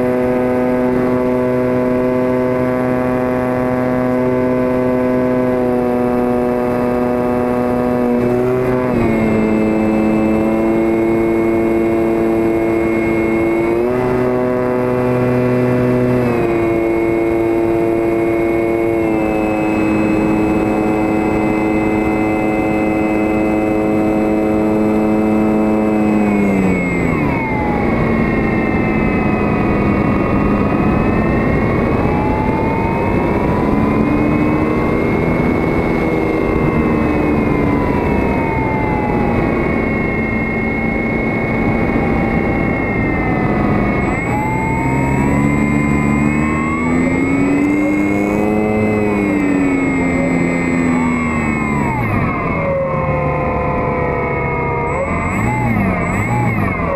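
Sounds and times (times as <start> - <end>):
model plane motor whine: 0.0 - 56.9.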